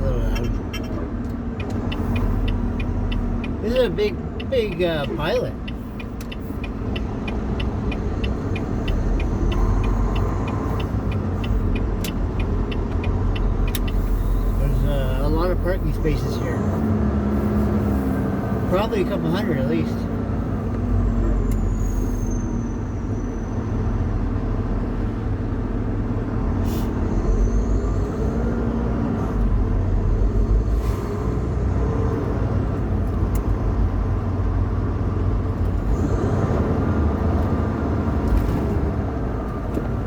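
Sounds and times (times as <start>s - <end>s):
diesel truck engine rumbling: 0.0s - 40.0s.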